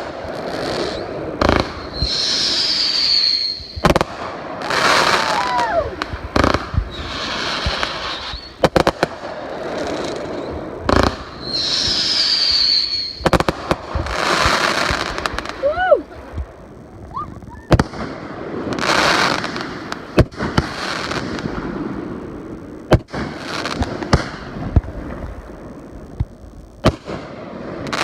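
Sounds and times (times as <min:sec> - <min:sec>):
fireworks banging: 0:00.0 - 0:28.0
fireworks hissing and whistling: 0:00.0 - 0:28.0.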